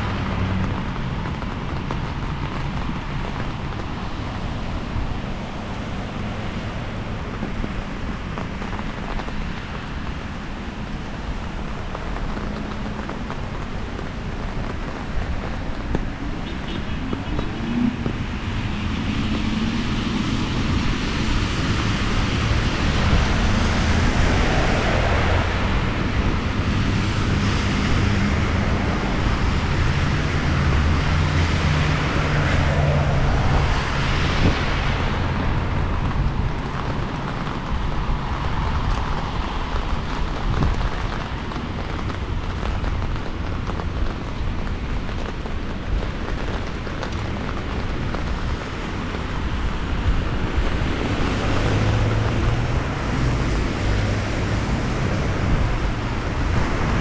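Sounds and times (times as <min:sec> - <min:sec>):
vehicles passing on wet road: 0:00.0 - 0:57.0
wind buffeting microphone: 0:00.0 - 0:57.0.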